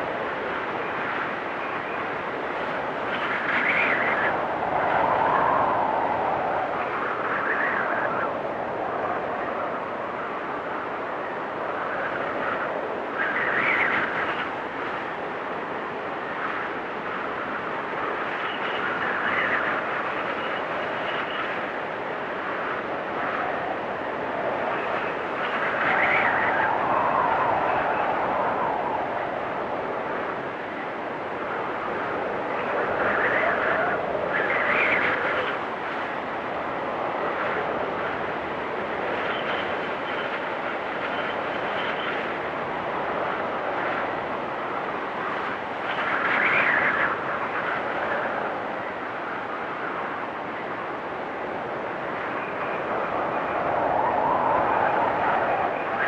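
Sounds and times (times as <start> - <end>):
storm wind whistling in gusts: 0.0 - 56.0.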